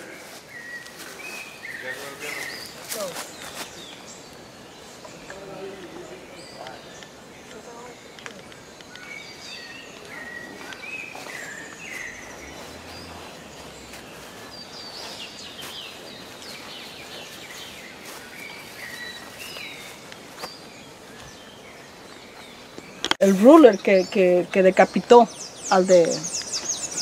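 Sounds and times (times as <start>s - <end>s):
birds chirping and whistling: 0.0s - 27.0s
outdoor ambience hiss: 0.0s - 27.0s.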